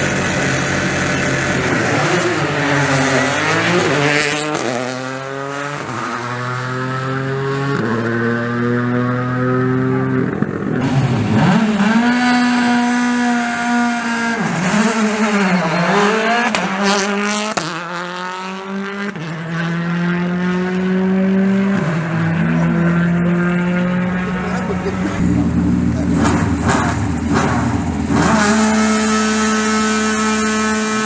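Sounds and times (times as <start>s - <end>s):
rally car engine at high revs: 0.0s - 31.0s.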